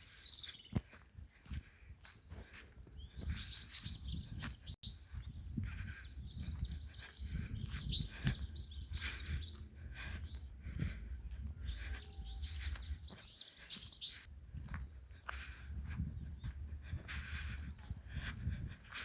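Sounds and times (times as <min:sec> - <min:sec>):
wild birds chirping: 0:00.0 - 0:19.0.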